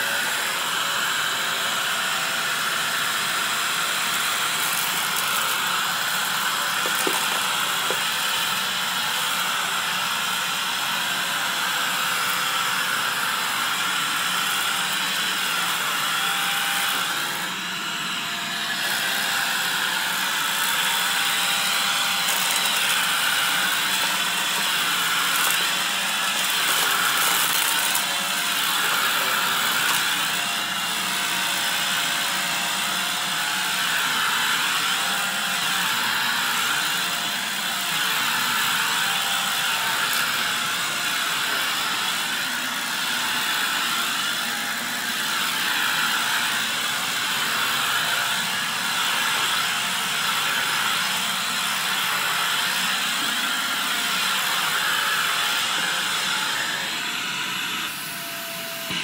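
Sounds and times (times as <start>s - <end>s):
vacuum cleaner running on carpet: 0.0s - 59.0s.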